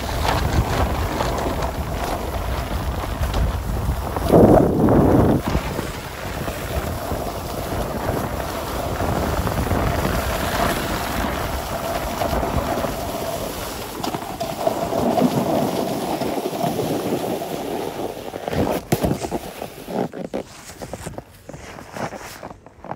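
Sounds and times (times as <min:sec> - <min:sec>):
wind on microphone: 0:00.0 - 0:21.5
snowboard scraping over snow: 0:00.0 - 0:22.9
snowboard scuffs and knocks: 0:00.0 - 0:22.9.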